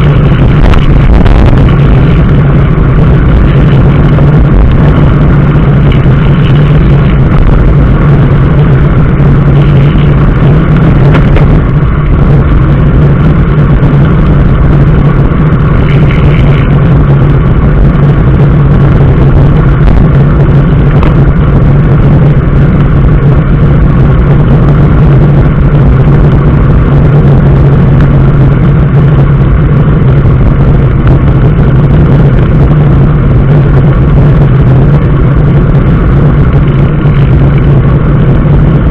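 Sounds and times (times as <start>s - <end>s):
road vehicle engine and road noise: 0.0s - 38.9s.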